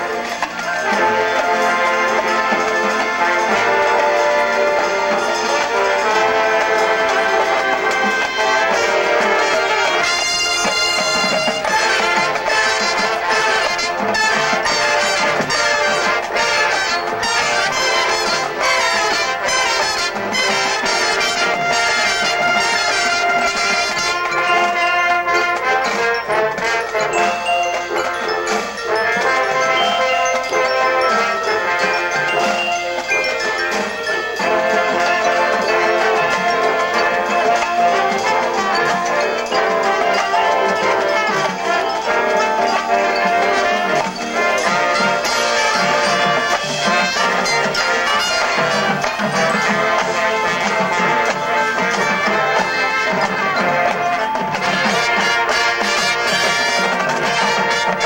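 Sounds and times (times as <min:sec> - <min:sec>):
mallet percussion: 0:00.0 - 0:58.0
marching band playing: 0:00.0 - 0:58.0.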